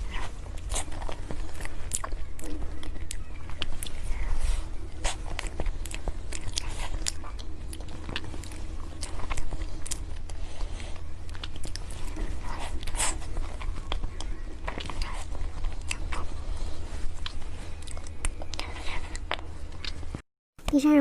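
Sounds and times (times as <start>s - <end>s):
biting and chewing: 0.0s - 20.2s
crunchy clicks and crackles: 0.0s - 20.2s.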